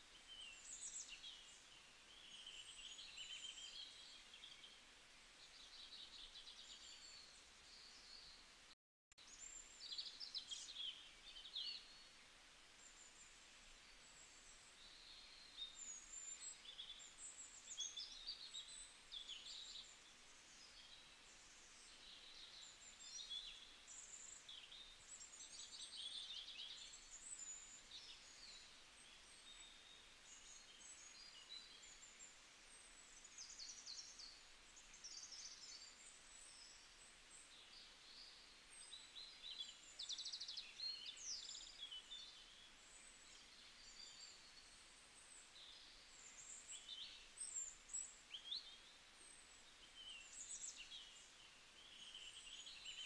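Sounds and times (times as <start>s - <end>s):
low steady hiss: 0.0s - 53.0s
small birds chirping: 0.0s - 53.0s.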